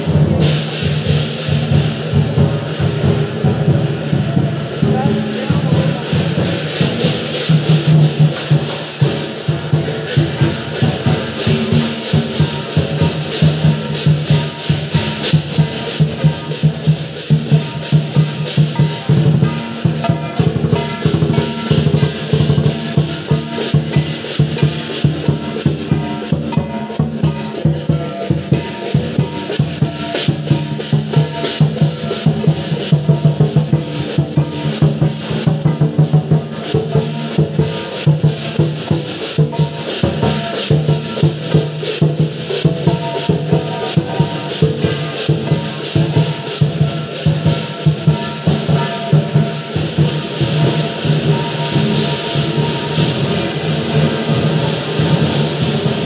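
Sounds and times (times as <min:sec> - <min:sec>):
crashing cymbals: 0:00.0 - 0:56.0
large drum beaten fast: 0:00.0 - 0:56.0.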